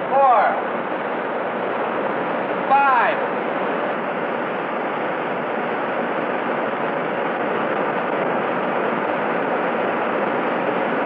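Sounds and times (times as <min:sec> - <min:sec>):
large generator running: 0:00.0 - 0:11.0.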